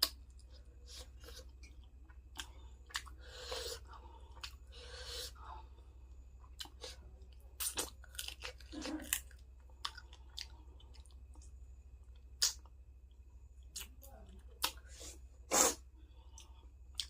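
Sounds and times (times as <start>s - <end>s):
person chewing food: 0.0s - 13.9s, 14.6s - 17.0s.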